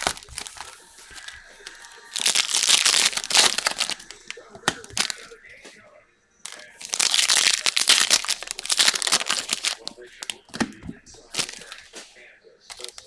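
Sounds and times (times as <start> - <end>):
foil wrappers crinkling: 0.0 - 5.6, 6.5 - 11.9, 12.7 - 13.0.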